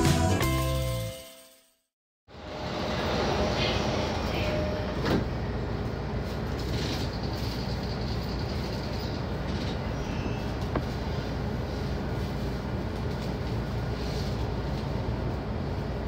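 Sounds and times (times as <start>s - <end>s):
train cab mechanical hum: 2.3s - 16.0s.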